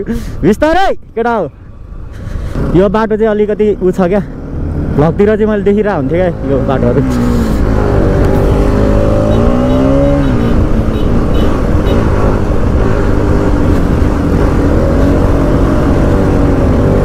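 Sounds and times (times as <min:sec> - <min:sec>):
motorcycle engine revving: 0:02.5 - 0:17.0.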